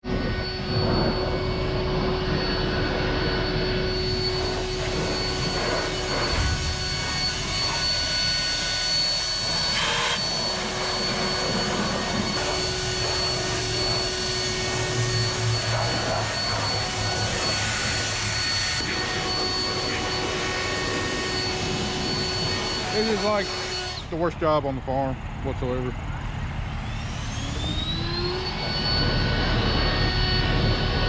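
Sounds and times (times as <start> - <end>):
air blower rushing: 0.0 - 31.0
constant whine: 0.0 - 31.0.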